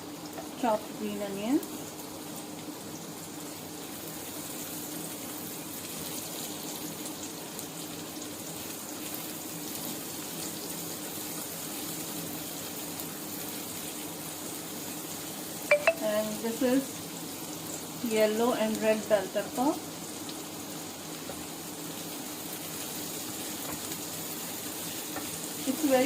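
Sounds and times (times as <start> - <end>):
garlic sizzling in hot oil: 0.0 - 26.0.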